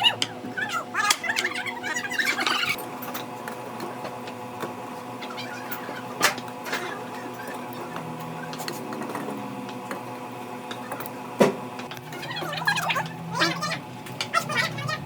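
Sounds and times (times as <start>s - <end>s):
machine electric hum: 0.0s - 15.0s.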